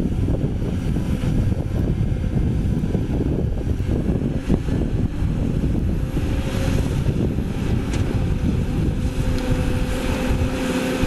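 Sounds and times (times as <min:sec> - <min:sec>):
excavator diesel engine under load: 0:00.0 - 0:11.0
steady whine: 0:00.0 - 0:11.0.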